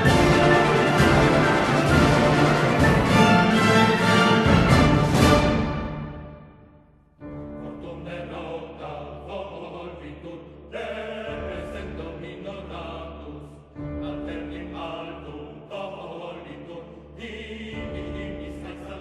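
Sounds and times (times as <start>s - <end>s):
choir singing: 0.0s - 6.6s, 7.5s - 19.0s
background music: 0.0s - 19.0s.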